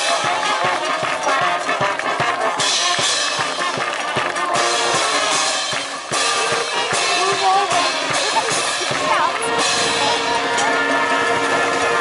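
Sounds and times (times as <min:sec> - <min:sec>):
brass band playing: 0:00.0 - 0:12.0
steady drum beat: 0:00.0 - 0:12.0.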